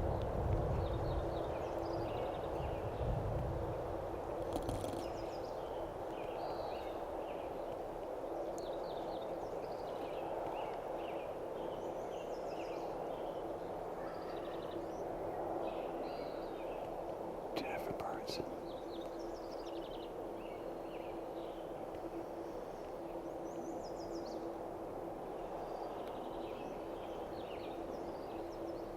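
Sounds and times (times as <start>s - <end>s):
faint constant hum: 0.0s - 28.9s
songbirds chirping and trilling: 0.0s - 28.9s.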